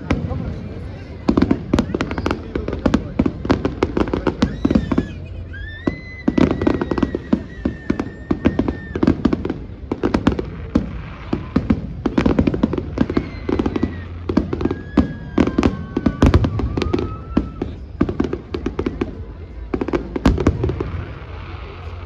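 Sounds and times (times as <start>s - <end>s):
fireworks bangs and crackles: 0.0s - 22.0s
fireworks whistling: 0.0s - 22.0s.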